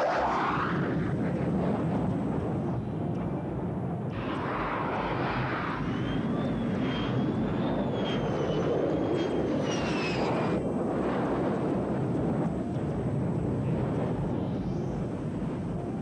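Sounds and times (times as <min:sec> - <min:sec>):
aircraft engine rumble and whine: 0:00.0 - 0:16.0.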